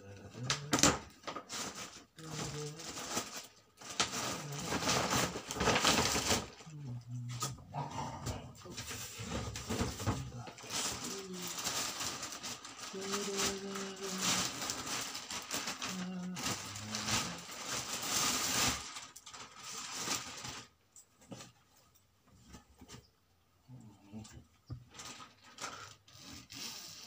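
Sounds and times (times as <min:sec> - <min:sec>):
plastic bag rustling: 0:00.4 - 0:06.8, 0:07.8 - 0:21.6, 0:24.8 - 0:26.5.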